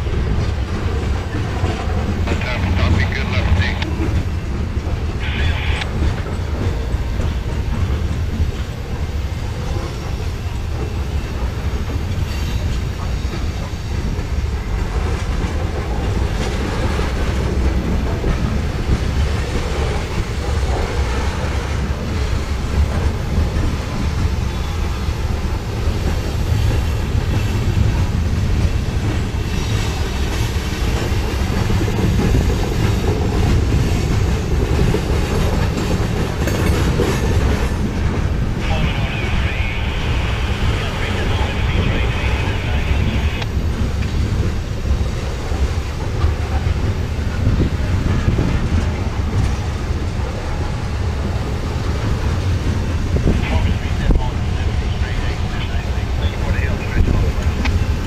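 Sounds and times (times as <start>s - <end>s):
clickety-clack over rail joints: 0.0s - 58.0s
train wheels rumbling on rail: 0.0s - 58.0s.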